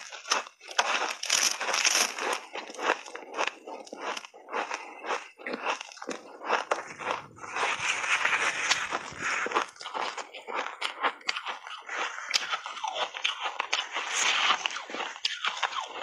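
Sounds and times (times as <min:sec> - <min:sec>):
ice being bitten and chewed: 0:00.0 - 0:16.0.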